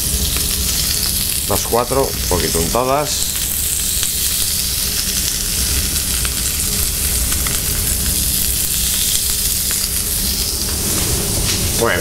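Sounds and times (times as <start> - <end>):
fish sizzling in hot oil: 0.0 - 11.8
low rumble: 0.0 - 12.0.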